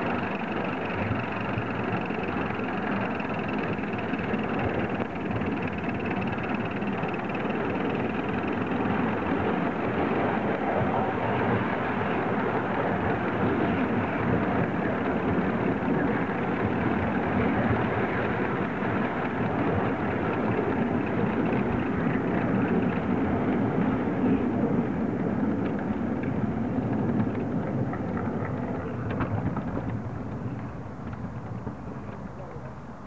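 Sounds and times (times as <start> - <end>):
steam locomotive working: 0.0 - 33.0.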